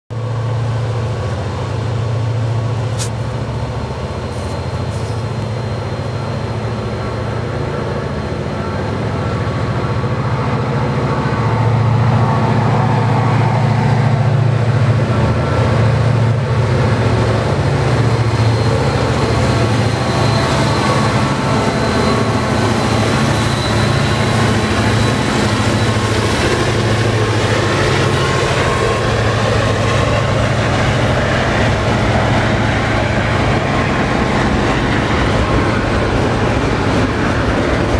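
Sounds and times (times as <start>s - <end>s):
diesel locomotives droning: 0.1s - 37.9s
freight cars rolling on rails: 0.2s - 37.9s.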